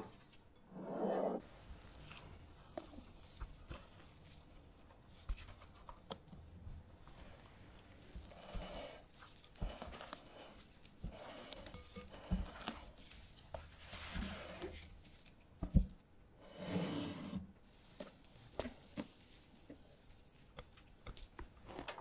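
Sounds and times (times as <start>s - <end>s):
spatula folding batter: 1.4s - 16.7s, 17.3s - 22.0s.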